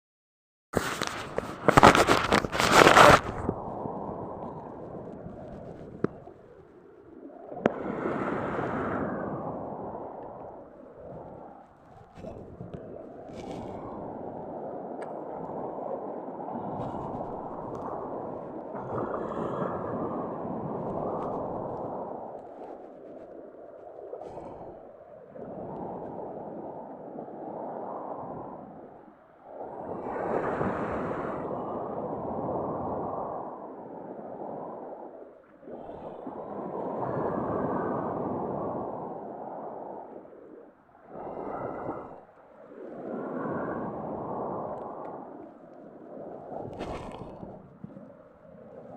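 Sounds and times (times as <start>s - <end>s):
sea waves washing: 0.8s - 28.9s, 29.5s - 48.9s.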